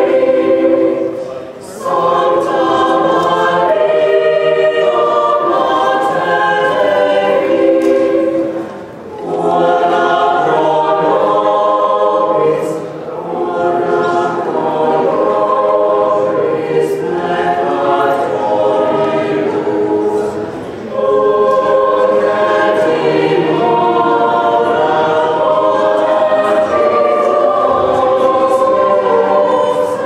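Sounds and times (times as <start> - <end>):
mixed choir singing a cappella: 0.0 - 30.0.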